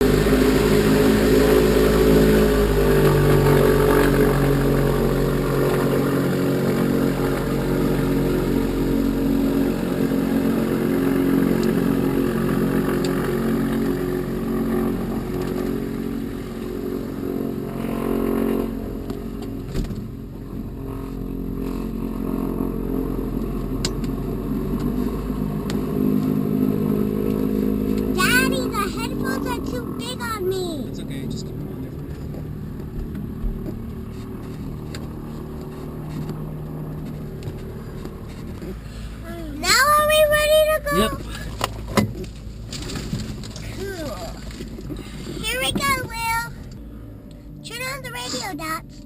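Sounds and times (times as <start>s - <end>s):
light aircraft piston engine: 0.0s - 49.0s.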